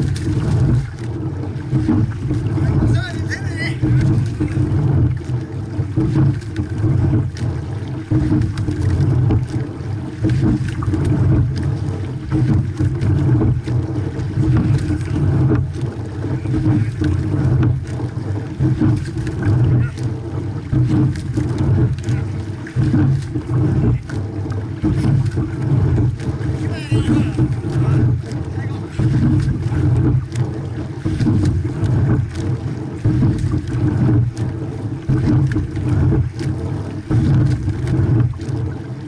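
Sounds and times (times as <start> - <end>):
water rushing along boat hull: 0.0 - 39.0
wind on microphone: 0.0 - 39.0.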